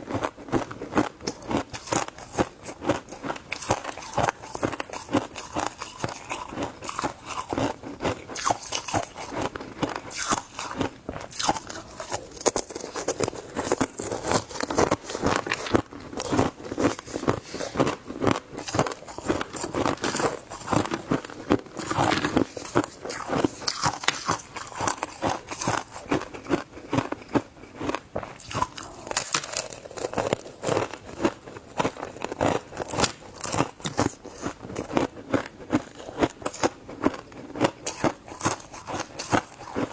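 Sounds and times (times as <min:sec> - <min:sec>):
crunching ice between teeth: 0:00.1 - 0:39.9.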